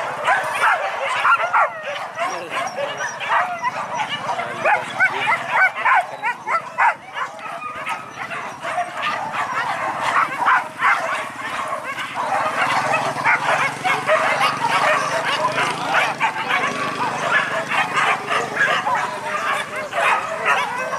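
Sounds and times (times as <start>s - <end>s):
dogs yelping and whining: 0.0s - 20.9s.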